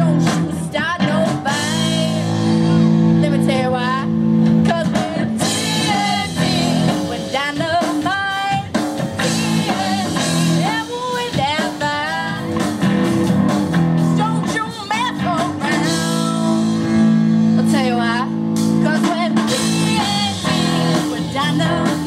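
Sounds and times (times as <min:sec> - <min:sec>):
woman singing lead: 0:00.0 - 0:13.0, 0:14.0 - 0:22.0
drum kit: 0:00.0 - 0:22.0
guitar: 0:00.0 - 0:22.0.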